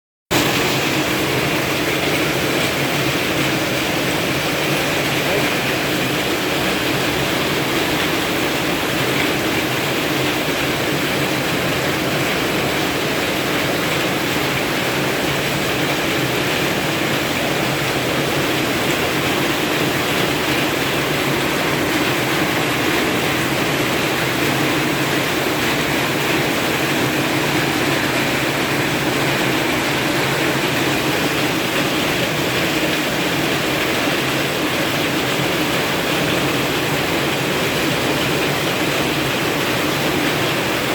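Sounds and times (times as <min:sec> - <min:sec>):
heavy rain pouring: 0:00.3 - 0:40.9.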